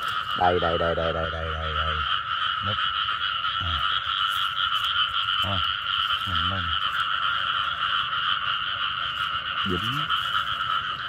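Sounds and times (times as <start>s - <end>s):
frogs calling: 0.0s - 11.0s
low frog croaks: 0.0s - 11.0s.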